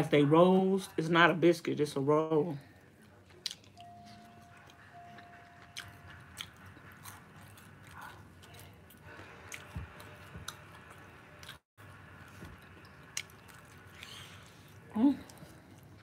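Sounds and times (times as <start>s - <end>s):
chewing crispy fried chicken: 2.6s - 16.0s.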